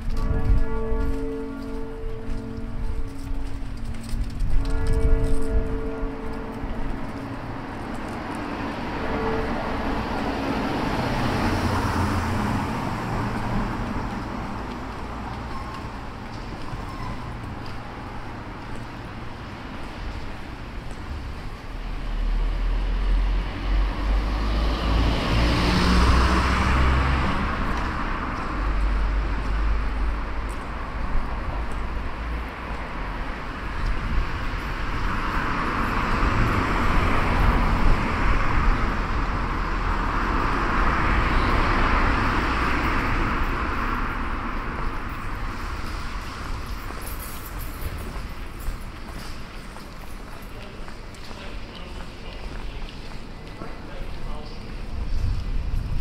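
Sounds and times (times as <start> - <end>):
cars passing: 0.0 - 56.0
low traffic rumble: 0.0 - 56.0.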